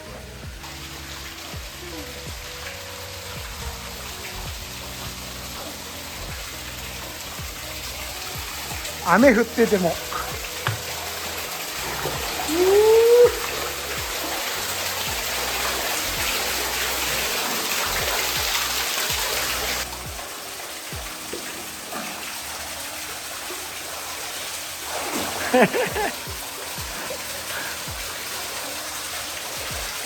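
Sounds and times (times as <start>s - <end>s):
background music: 0.0s - 30.0s
rain falling: 0.0s - 30.0s.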